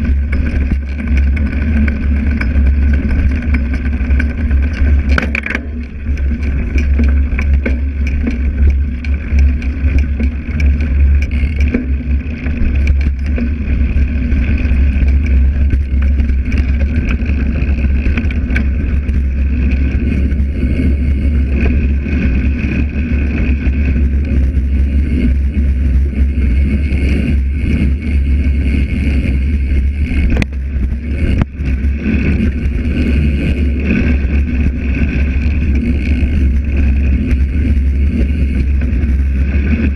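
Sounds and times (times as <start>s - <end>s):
bike clicks and knocks: 0.0s - 39.9s
deep rumble of tyre and wind: 0.0s - 39.9s.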